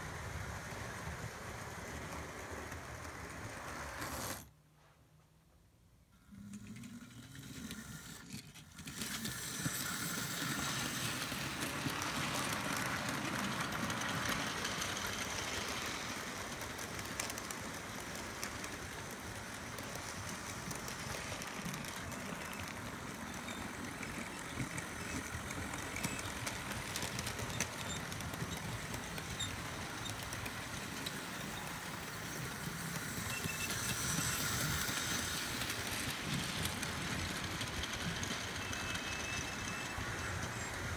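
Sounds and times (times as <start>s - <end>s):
model train motors whirring: 0.0s - 4.5s, 6.2s - 40.9s
wheels clicking over rail joints: 0.3s - 4.5s, 6.3s - 40.9s.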